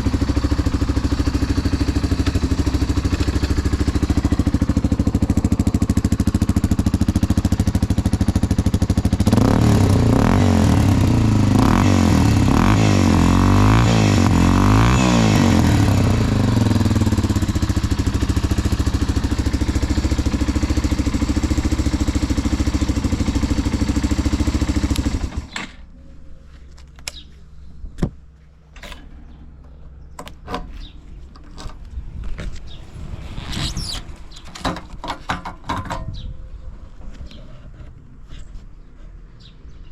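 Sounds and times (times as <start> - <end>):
motorcycle engine idling and revving: 0.0 - 36.4.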